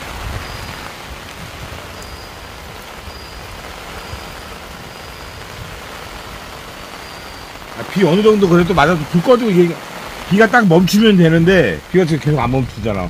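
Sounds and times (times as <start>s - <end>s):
rain pattering on ground: 0.0s - 13.0s.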